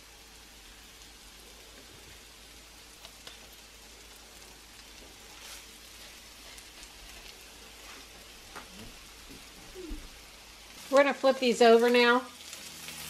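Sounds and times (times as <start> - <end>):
meat patties sizzling in a pan: 0.0 - 13.0.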